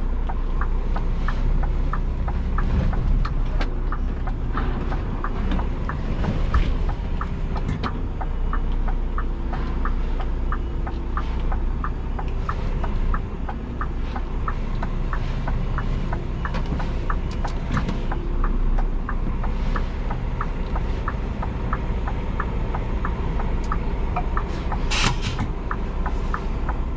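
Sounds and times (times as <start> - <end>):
regular ticking: 0.0 - 26.9
truck diesel engine rumbling: 0.0 - 26.9.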